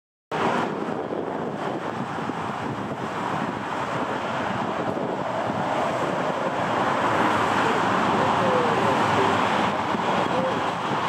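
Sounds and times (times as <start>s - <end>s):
jet engines whooshing roar: 0.3s - 11.0s.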